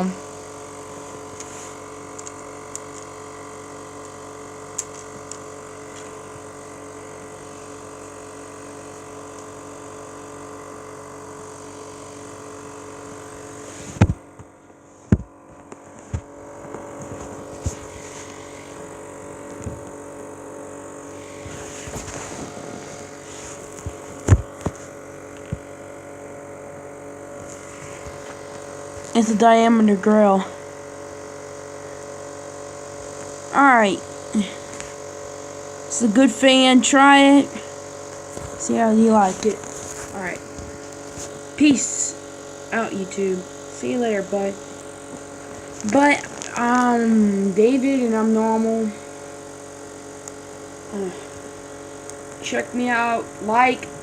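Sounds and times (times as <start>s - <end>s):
box fan motor humming: 0.0s - 54.0s.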